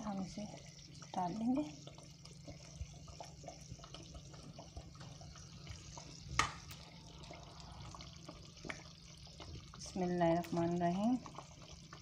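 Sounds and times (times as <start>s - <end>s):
hot oil crackling and sizzling: 0.0s - 12.0s.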